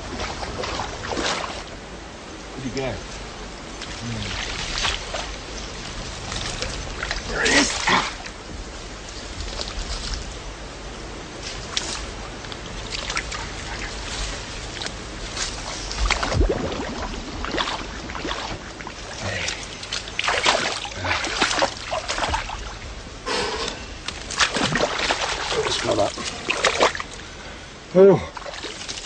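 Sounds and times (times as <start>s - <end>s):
creek water splashing: 0.0s - 1.8s, 2.6s - 29.0s.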